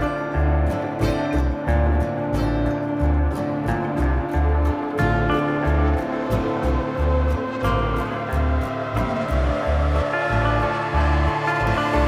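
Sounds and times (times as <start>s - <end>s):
music with bass beat: 0.0s - 12.0s.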